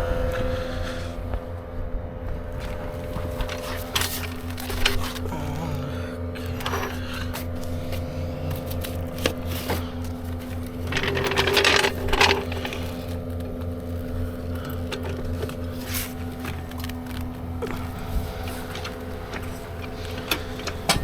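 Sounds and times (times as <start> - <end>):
motor running with low pulse: 0.0 - 21.0.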